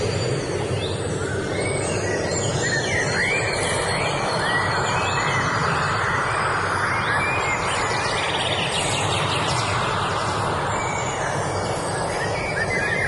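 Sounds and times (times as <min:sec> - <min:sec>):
birds chirping and singing: 0:00.0 - 0:06.2, 0:06.9 - 0:13.0
steady rushing noise: 0:00.0 - 0:13.0.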